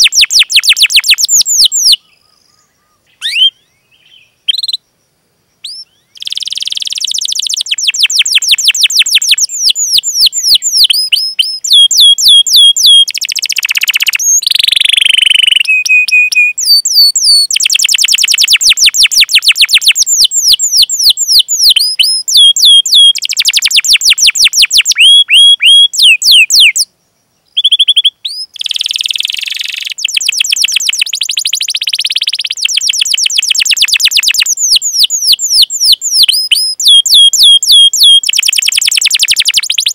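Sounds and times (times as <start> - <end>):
canary singing trills: 0.0 - 4.8, 5.6 - 39.9.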